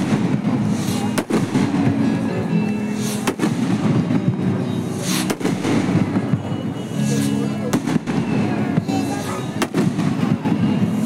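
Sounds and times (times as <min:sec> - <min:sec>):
rocket fireworks whooshing: 0:00.0 - 0:02.3, 0:02.9 - 0:11.0
fireworks bangs: 0:00.0 - 0:11.0
music: 0:00.0 - 0:11.0.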